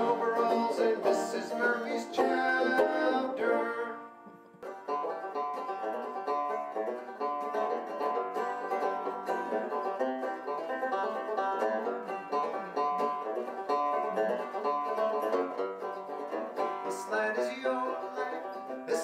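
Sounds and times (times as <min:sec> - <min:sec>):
plucked string instrumental music: 0:00.0 - 0:19.0.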